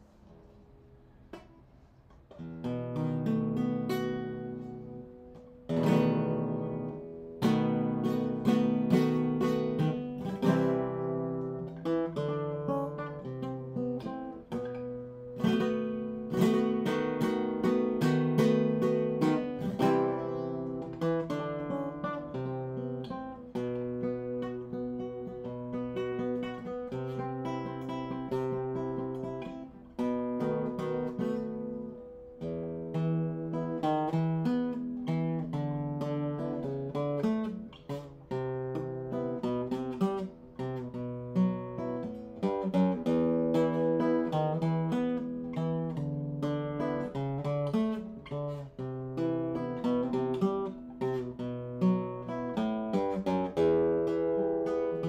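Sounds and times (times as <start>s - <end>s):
acoustic guitar plucking: 0.0s - 55.0s.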